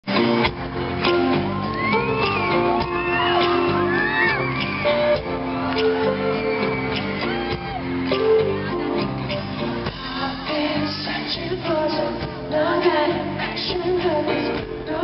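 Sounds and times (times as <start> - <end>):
live pop-rock band playing: 0.0 - 15.0
crowd screaming and whooping: 0.1 - 12.2.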